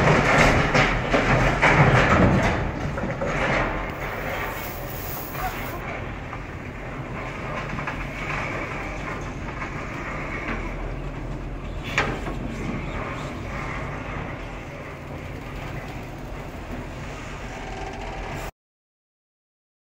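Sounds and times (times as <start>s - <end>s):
outdoor noise: 0.0s - 18.5s
low engine rumble: 2.5s - 18.5s.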